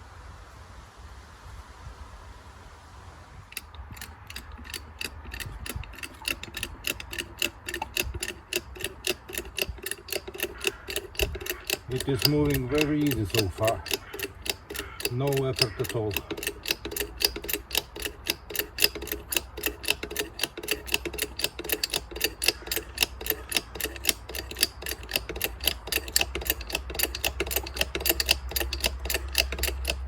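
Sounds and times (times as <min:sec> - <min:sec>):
ratchet wrench clicking: 0:03.6 - 0:30.0.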